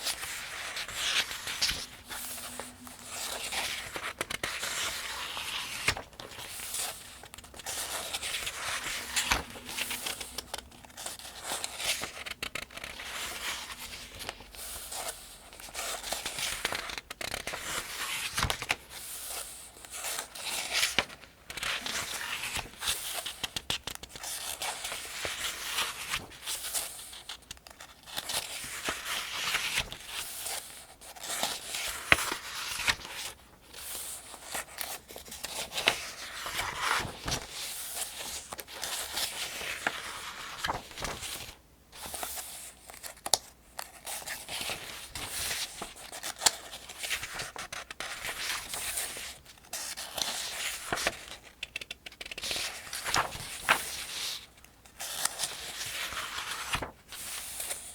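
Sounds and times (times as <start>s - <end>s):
paper pages turning: 0.0s - 57.9s.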